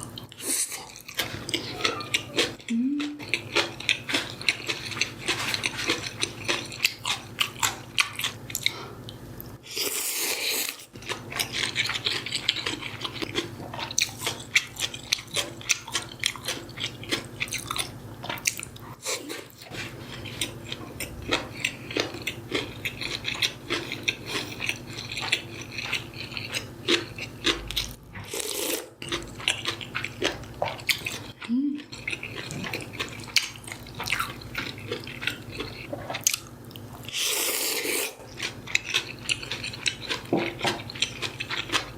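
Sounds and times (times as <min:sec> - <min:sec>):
crunching and chewing food: 0:00.0 - 0:41.9.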